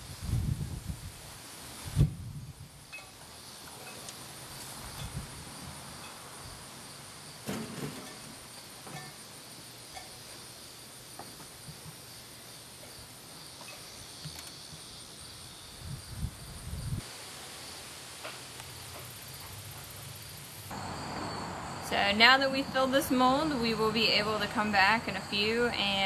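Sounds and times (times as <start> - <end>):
insects chirring: 2.4 - 23.6.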